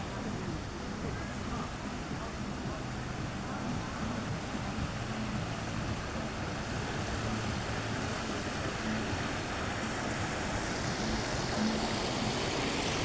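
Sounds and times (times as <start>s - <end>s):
sea surf: 0.0s - 13.0s
wind: 0.0s - 13.0s.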